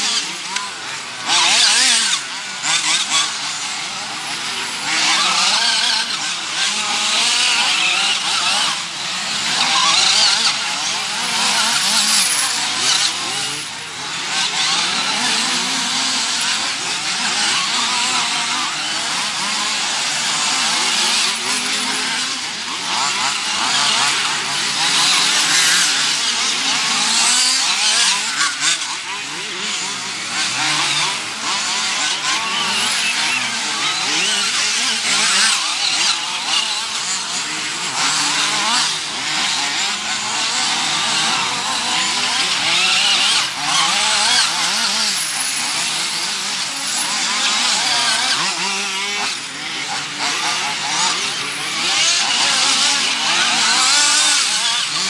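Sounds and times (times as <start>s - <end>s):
rc car engines revving: 0.0s - 55.0s.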